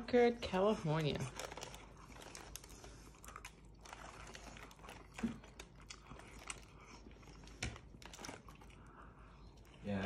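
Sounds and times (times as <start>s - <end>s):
faint chewing: 0.4s - 10.0s.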